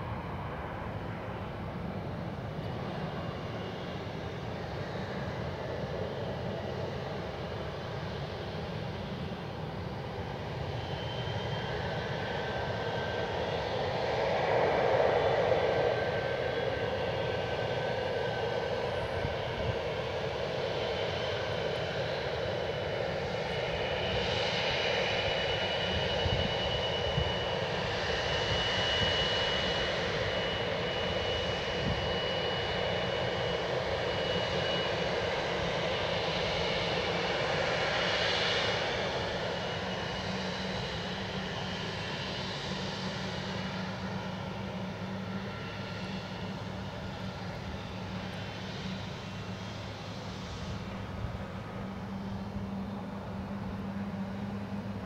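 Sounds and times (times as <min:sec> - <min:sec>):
jet engines running: 0:00.0 - 0:55.0
thin high engine whine: 0:00.0 - 0:55.0.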